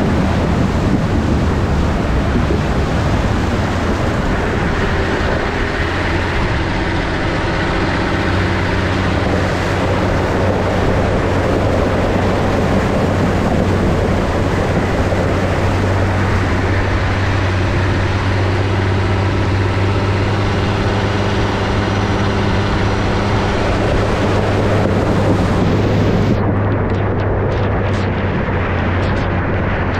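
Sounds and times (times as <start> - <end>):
steady rushing noise: 0.0 - 29.9
vehicle engine running: 0.0 - 29.9.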